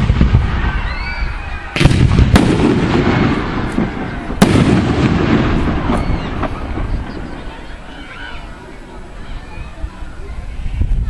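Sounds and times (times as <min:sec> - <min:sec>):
fireworks bursting: 0:00.0 - 0:09.2.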